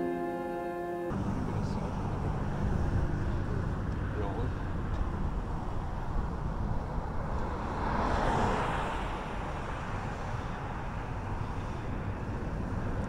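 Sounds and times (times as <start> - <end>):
low traffic rumble: 1.1 - 13.0
vehicle passing: 1.1 - 13.0.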